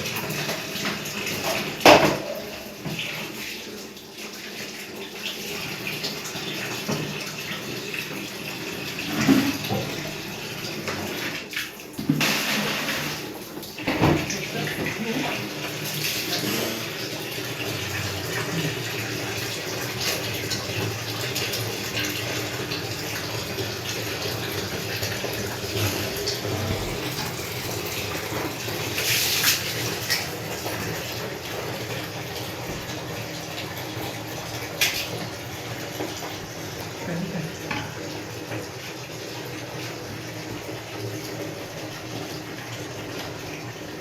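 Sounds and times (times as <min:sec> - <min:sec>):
water running: 0:00.0 - 0:44.0.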